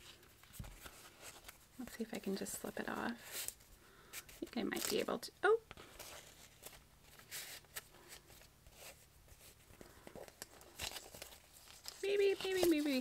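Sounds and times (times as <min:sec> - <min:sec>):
paper rustling and scraping: 0:00.0 - 0:03.6, 0:05.8 - 0:13.0.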